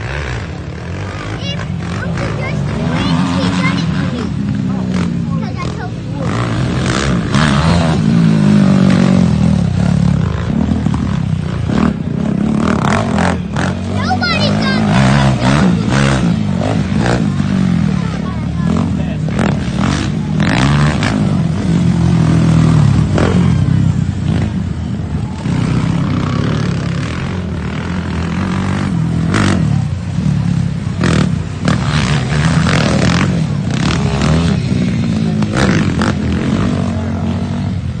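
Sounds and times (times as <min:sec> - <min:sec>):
quad engines revving: 0:00.0 - 0:38.0.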